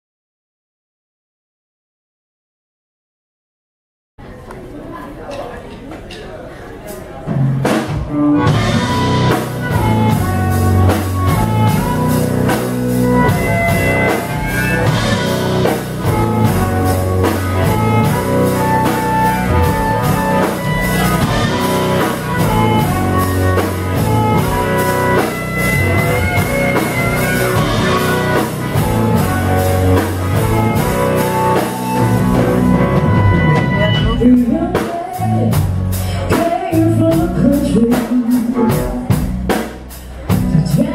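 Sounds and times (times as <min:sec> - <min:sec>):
live band playing: 0:06.8 - 0:40.9
drum kit beat: 0:07.2 - 0:40.9
electric guitar: 0:07.8 - 0:40.9.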